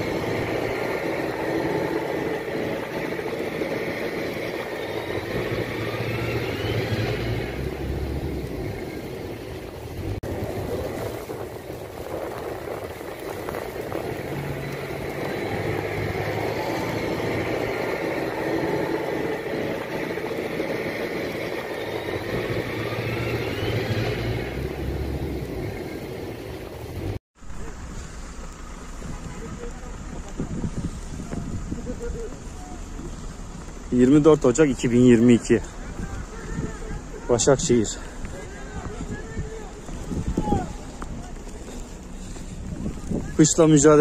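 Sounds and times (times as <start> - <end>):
engine rumble: 0.0 - 44.0
hissing wash: 0.0 - 44.0.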